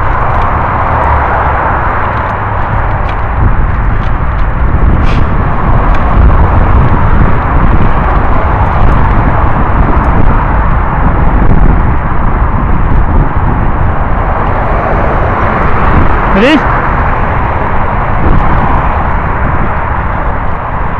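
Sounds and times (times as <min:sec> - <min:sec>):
bike tyre and frame noise: 0:00.0 - 0:20.9
wind rumble on microphone: 0:00.0 - 0:20.9.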